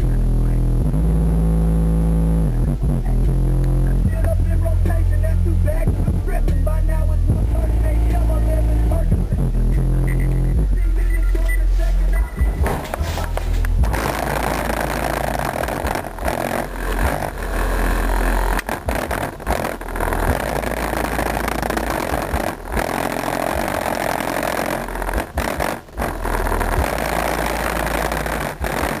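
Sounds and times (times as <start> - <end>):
deep bass notes from subwoofers: 0.0 - 29.0.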